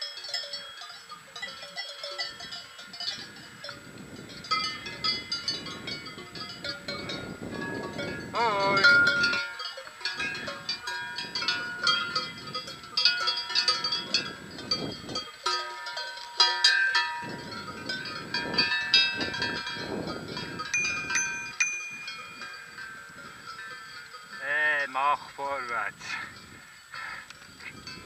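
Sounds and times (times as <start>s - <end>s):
cowbells clanking: 0.0s - 28.0s.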